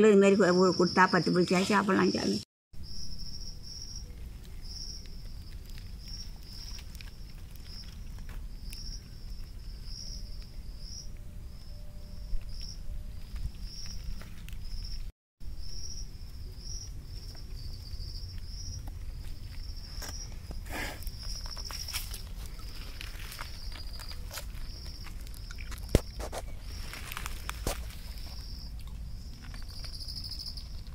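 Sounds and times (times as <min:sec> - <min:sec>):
insects chirping: 0:00.0 - 0:30.9.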